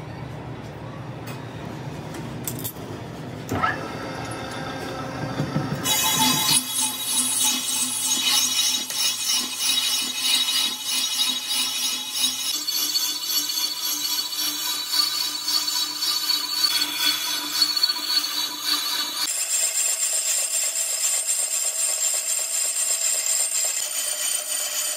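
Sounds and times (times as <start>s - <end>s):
metalworking machinery running: 2.4s - 24.9s.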